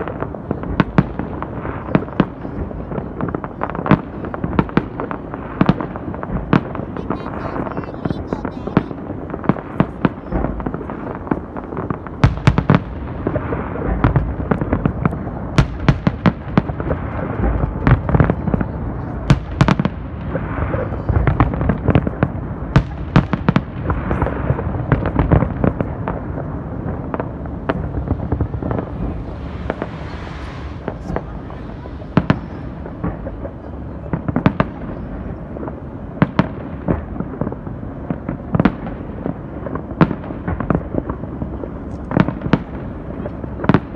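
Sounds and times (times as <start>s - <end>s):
continuous rumble: 0.0s - 43.9s
fireworks bursts and bangs: 0.0s - 43.9s.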